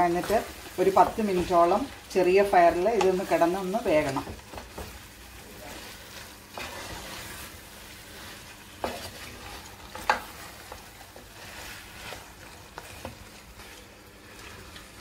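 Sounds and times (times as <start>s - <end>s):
curry sizzling softly: 0.0s - 15.0s
spatula stirring curry in pot: 0.0s - 15.0s.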